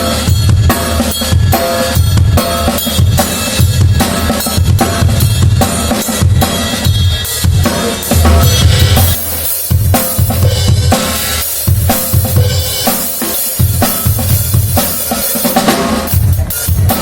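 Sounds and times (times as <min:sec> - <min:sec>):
snare and cymbal hits: 0:00.0 - 0:17.0.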